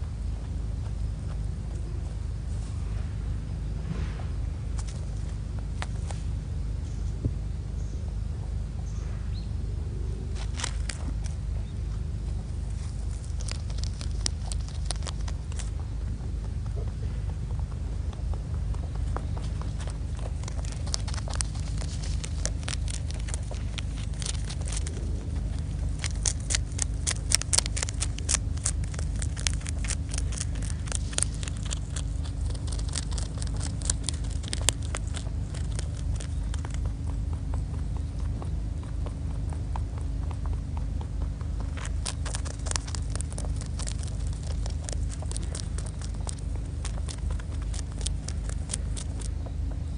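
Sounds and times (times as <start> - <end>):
low rumble: 0.0 - 49.9
rabbit chewing dry leaves: 0.0 - 49.9.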